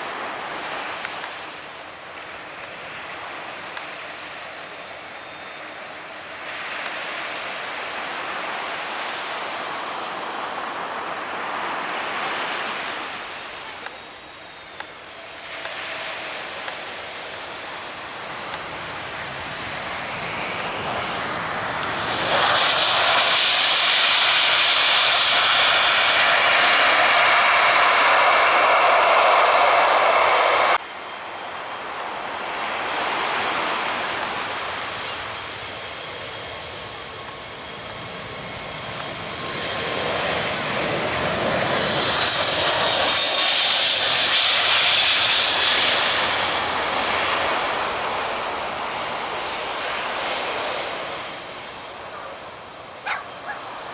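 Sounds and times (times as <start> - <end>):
aircraft engine noise: 0.0 - 53.9.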